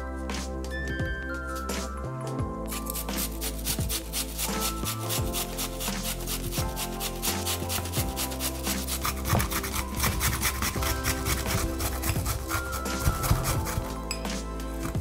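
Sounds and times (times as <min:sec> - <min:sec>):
background music with steady beat: 0:00.0 - 0:15.0
rubbing rasping food preparation: 0:02.7 - 0:15.0.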